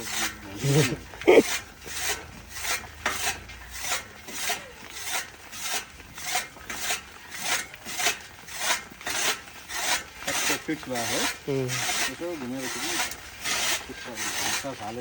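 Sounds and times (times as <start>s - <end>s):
chaff cutter blades rasping: 0.0s - 15.0s.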